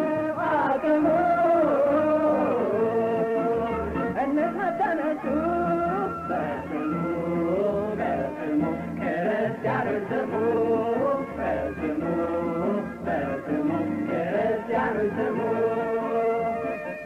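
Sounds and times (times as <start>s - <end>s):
instrumental accompaniment with bass: 0.0s - 17.0s
man singing: 0.0s - 17.0s.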